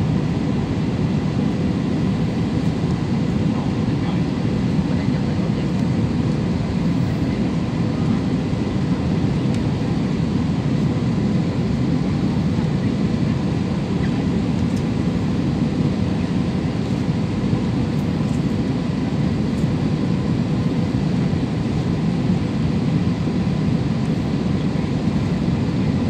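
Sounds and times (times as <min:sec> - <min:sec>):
jet airliner cabin noise: 0:00.0 - 0:26.0.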